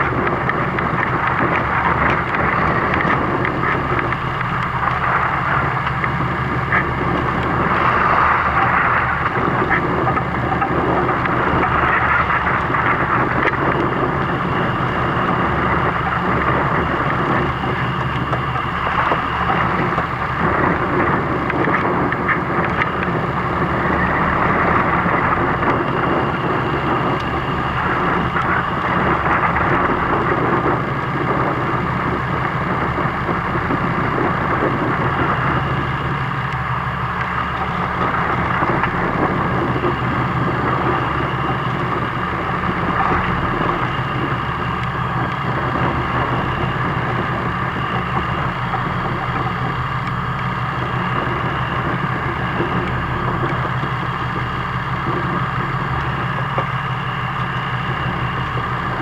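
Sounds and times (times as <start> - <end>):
boat engine humming: 0.0 - 59.0
wind: 0.0 - 59.0.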